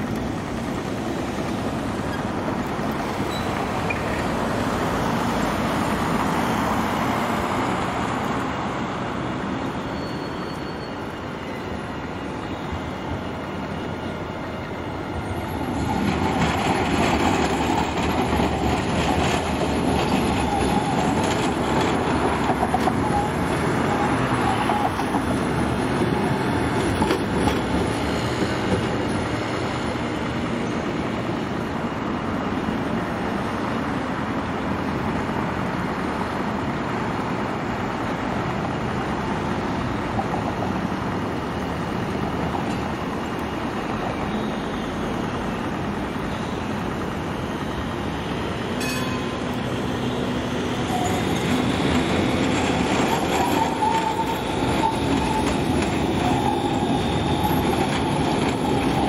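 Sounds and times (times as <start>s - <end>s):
tram wheels squealing on rails: 0.0s - 36.6s, 37.9s - 59.0s
road traffic rumble: 0.0s - 59.0s
tram approaching: 0.0s - 59.0s
tram wheels clicking: 0.0s - 59.0s.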